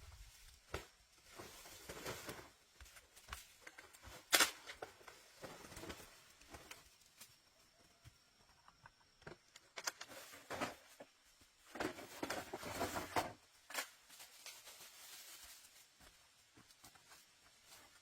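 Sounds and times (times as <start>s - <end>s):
rustling and scraping: 0.0s - 7.2s, 8.7s - 18.0s.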